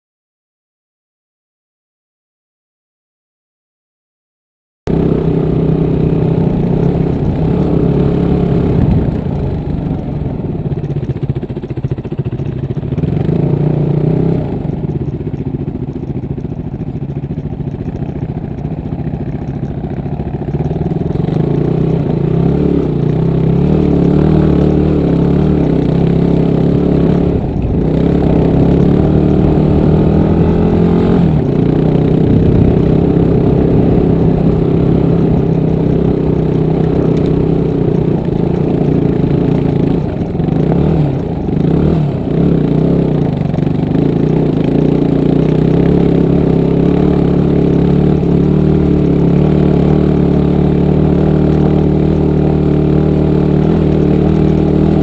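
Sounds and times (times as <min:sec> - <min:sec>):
motorcycle engine revving: 0:04.9 - 0:55.0.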